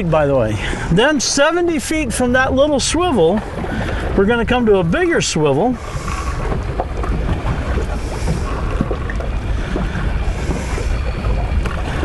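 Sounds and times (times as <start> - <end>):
water against boat hull: 0.0 - 12.0
wind buffeting microphone: 0.0 - 12.0.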